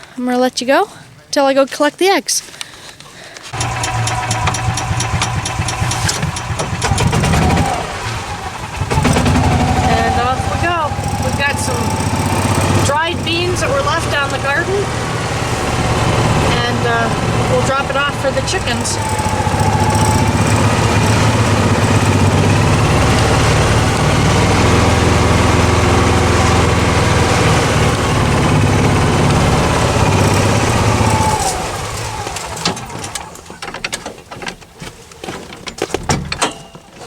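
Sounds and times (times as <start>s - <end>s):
utility vehicle engine running: 3.6s - 34.6s
knocks and rattles: 3.6s - 37.0s.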